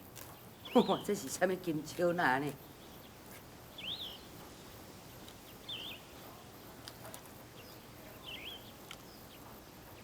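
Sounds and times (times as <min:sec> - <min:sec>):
small bird chirping: 0:00.2 - 0:01.6, 0:02.4 - 0:10.0.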